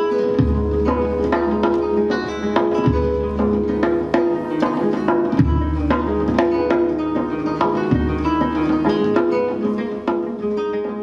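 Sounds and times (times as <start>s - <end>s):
acoustic guitar plucked notes: 0.0s - 11.0s
frame drum hand strikes: 0.3s - 10.4s.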